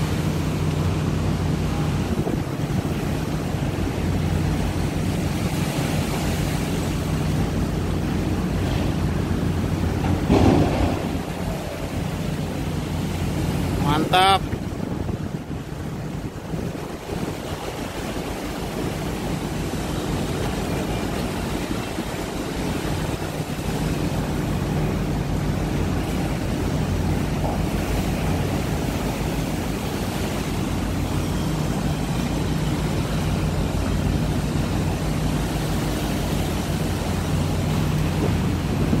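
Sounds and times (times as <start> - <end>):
wind buffeting microphone: 0.0 - 13.8, 14.4 - 39.0
boat engines humming: 0.0 - 39.0
sea water washing against hulls: 0.0 - 39.0.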